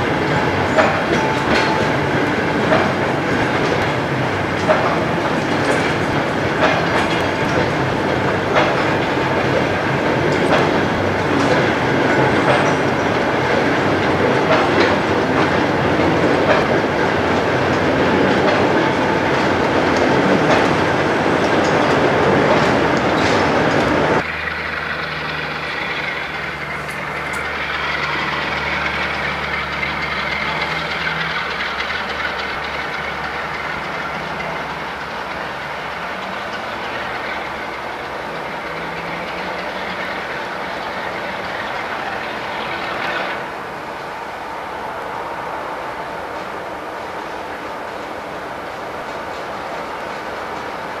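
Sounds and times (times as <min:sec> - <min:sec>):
diesel locomotive engine humming: 0:00.0 - 0:51.0
train passing close: 0:00.0 - 0:51.0.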